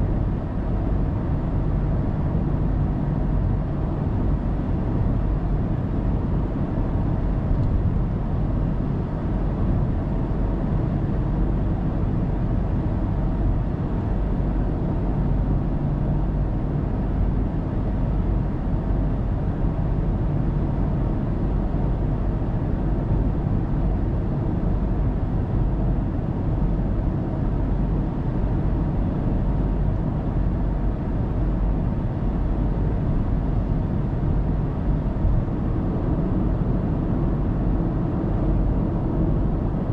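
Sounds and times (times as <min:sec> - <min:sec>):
car engine rumble: 0:00.0 - 0:39.9
road and tyre noise: 0:00.0 - 0:39.9.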